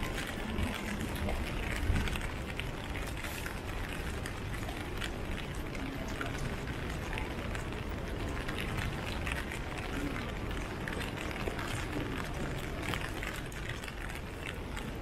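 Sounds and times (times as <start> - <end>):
low street noise rumble: 0.0 - 15.0
rain drops clicking: 0.0 - 15.0.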